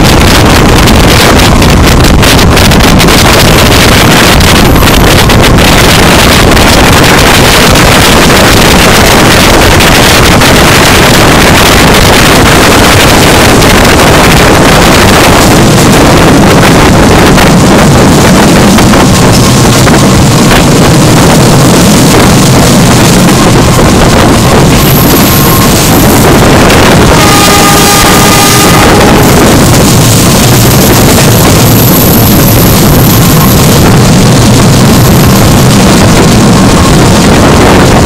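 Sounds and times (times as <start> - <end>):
train running noise: 0.0 - 38.0
wind buffeting the microphone: 0.0 - 38.0.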